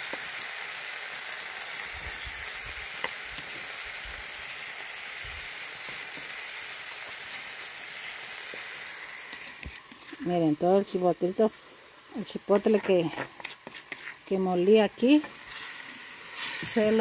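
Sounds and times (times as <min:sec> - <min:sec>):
meat and onion sizzling in a pan: 0:00.0 - 0:17.0.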